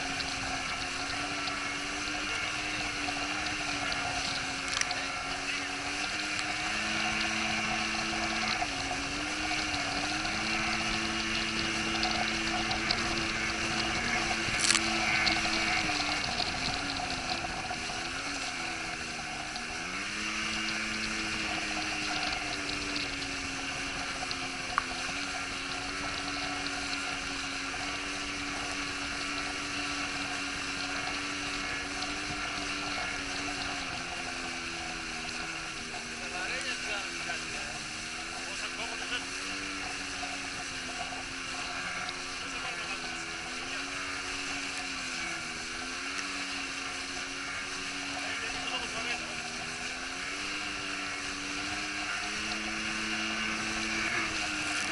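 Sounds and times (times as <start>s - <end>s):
boat engine running at speed: 0.0s - 54.9s
water rushing and spray: 0.0s - 54.9s.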